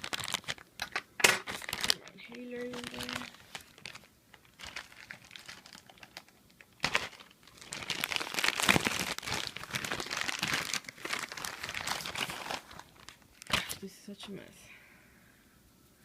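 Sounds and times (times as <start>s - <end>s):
packaging crinkling: 0.0s - 13.8s.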